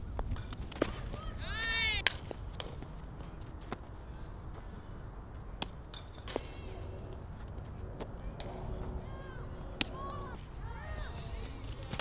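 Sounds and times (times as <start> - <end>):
softballs being hit and fielded: 0.0 - 12.0.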